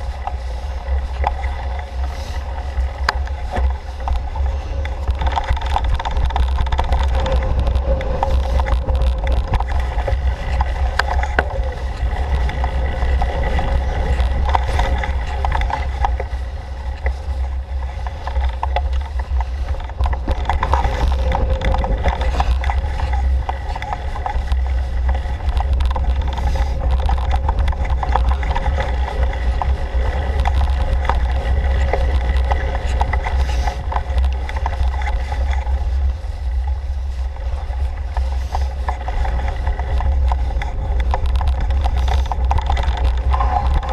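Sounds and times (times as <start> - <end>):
bike rattling over bumps: 0.0 - 43.9
rumble of bicycle tyres: 0.0 - 43.9.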